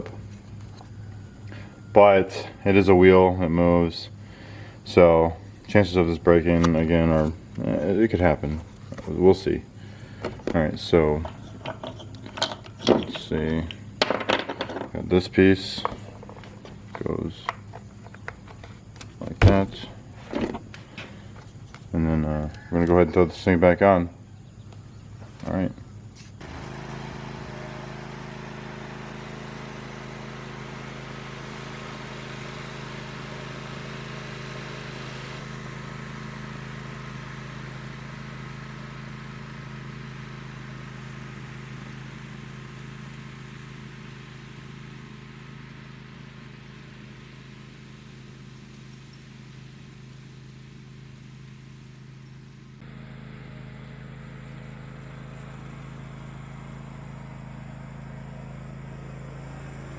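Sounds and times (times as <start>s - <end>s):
riding lawn mower engine: 0.0s - 59.9s.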